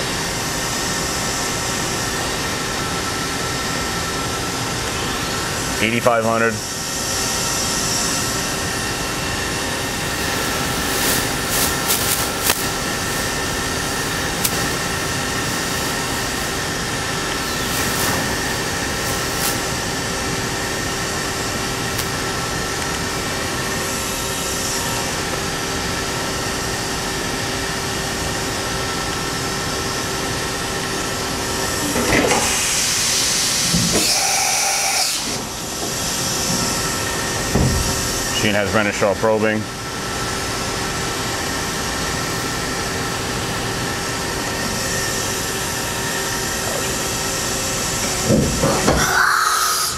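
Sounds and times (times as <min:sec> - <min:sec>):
machining center hiss and hum: 0:00.0 - 0:49.9.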